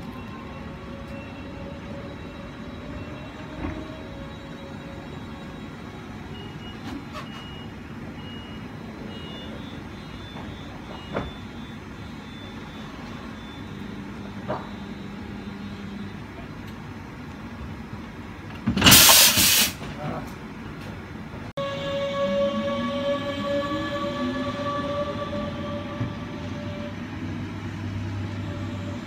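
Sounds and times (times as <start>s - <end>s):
train hum: 0.0s - 29.0s.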